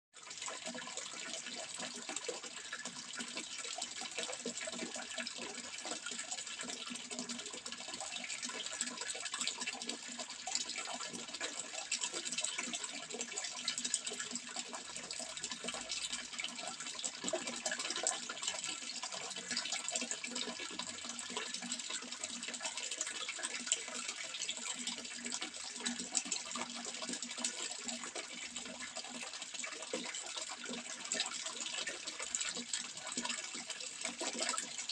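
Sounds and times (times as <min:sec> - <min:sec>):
running water: 0:00.2 - 0:34.9.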